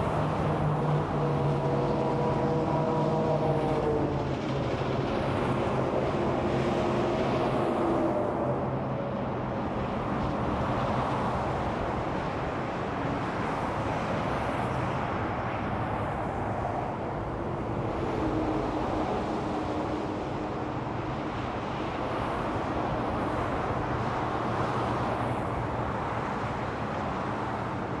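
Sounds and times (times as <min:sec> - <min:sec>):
tyre noise of passing traffic: 0:00.0 - 0:28.0.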